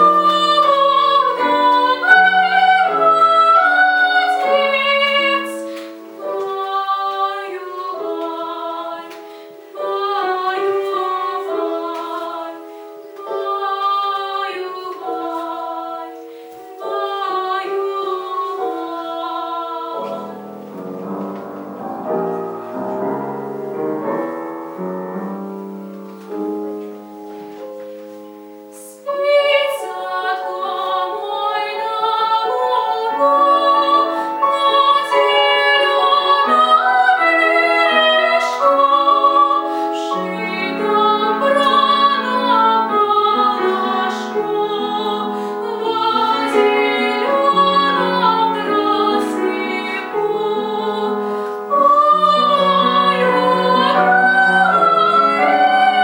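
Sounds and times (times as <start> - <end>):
piano accompaniment: 0.0 - 56.0
soprano singing: 0.0 - 56.0.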